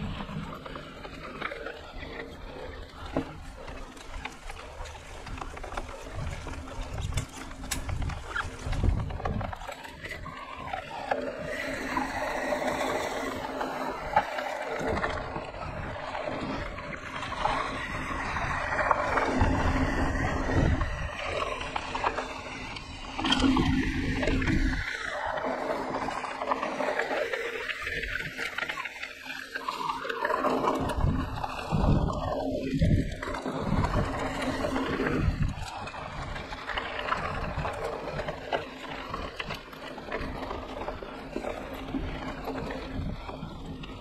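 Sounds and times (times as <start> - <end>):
mountain bike rolling on dirt: 0.0 - 44.0
wind buffeting microphone: 2.4 - 25.0, 30.6 - 44.0.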